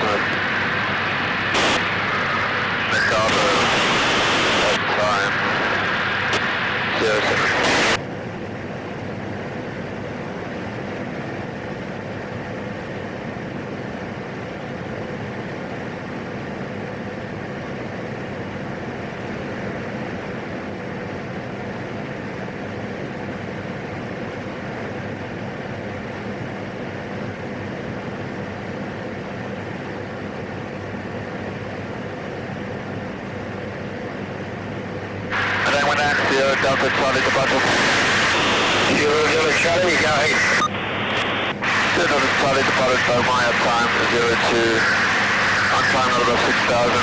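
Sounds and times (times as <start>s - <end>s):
propeller aircraft engine drone: 0.0s - 47.0s.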